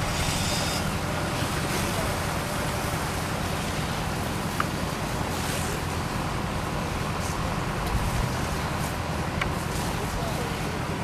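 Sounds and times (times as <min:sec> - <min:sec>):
fire burning with rushing noise: 0:00.0 - 0:11.0.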